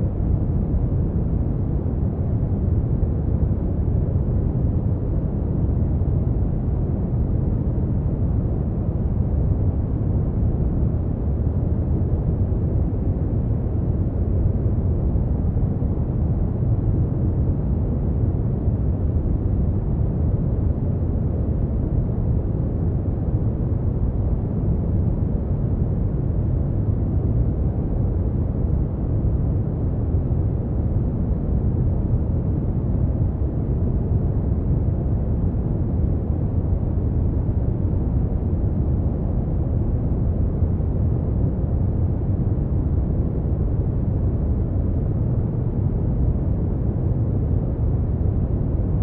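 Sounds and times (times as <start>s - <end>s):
brown noise rumbling hiss: 0.0s - 49.0s.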